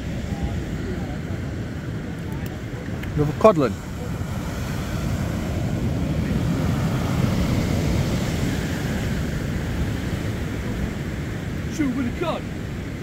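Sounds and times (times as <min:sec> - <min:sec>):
sea washing against pier: 0:00.0 - 0:13.0
wind buffeting microphone: 0:00.0 - 0:13.0.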